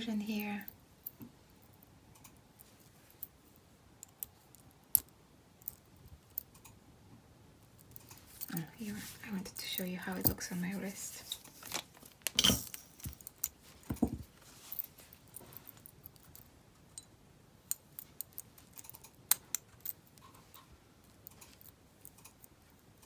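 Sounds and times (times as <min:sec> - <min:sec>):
beads and clasp clicking and rattling: 0:00.0 - 0:06.8, 0:07.6 - 0:23.0.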